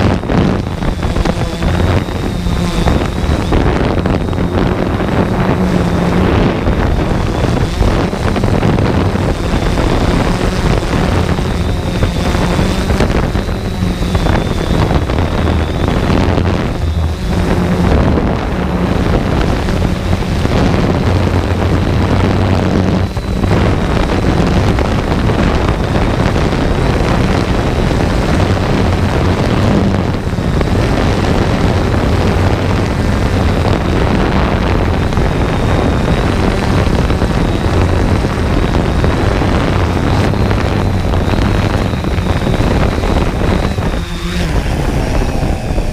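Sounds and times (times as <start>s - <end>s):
drone propellers buzzing: 0.0s - 45.9s
wind rushing over microphone: 0.0s - 45.9s.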